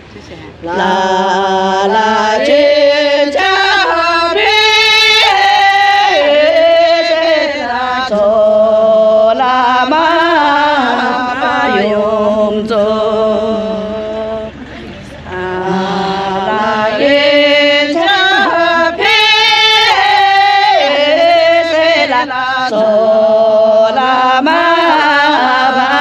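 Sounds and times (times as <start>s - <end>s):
person singing slow melody: 0.1s - 26.0s.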